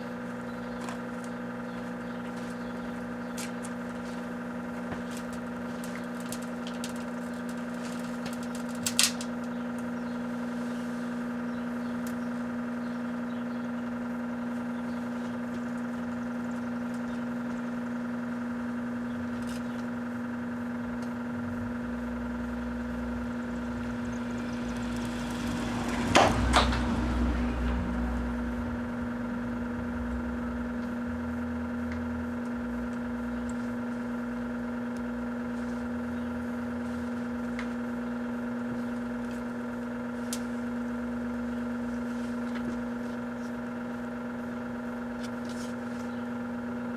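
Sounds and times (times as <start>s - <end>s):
microwave oven humming: 0.0s - 46.9s.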